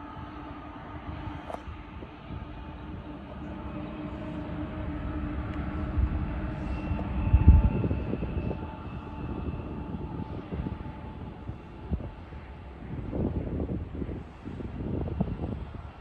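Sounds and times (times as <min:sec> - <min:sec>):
distant diesel locomotives droning: 0:00.0 - 0:16.0
wind buffeting microphone: 0:00.0 - 0:16.0.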